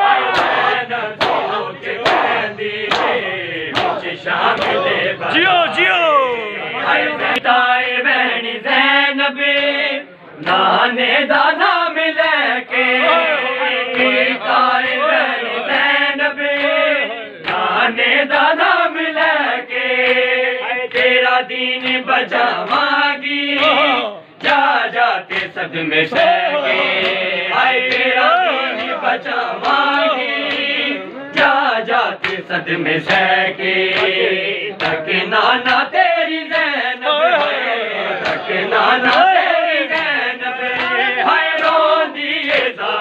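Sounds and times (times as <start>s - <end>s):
men chanting a lament: 0.0s - 43.0s.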